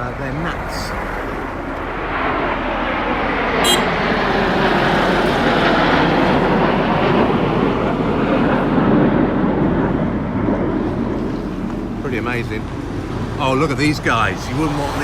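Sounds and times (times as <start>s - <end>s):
jets flying overhead: 0.0s - 15.0s.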